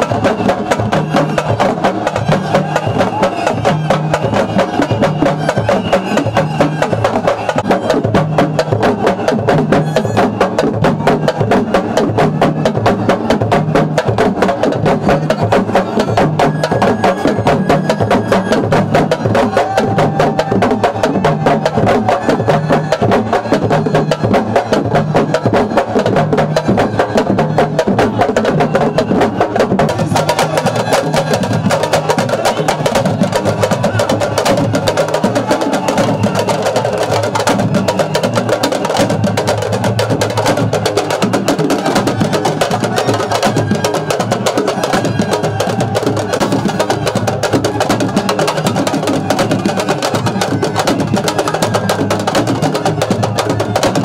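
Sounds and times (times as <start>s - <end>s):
drum ensemble fast rhythm: 0.0s - 54.0s.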